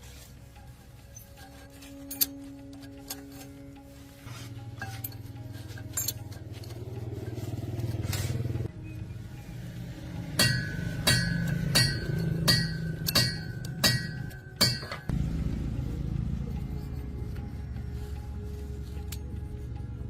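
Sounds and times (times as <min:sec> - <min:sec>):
low engine hum: 0:02.3 - 0:20.0.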